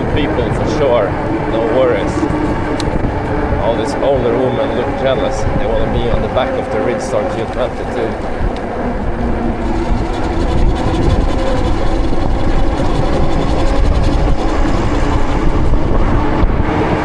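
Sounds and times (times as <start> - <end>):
heavy road rumble: 0.0 - 17.0
low vehicle hum: 0.0 - 17.0
wind on microphone: 0.0 - 17.0.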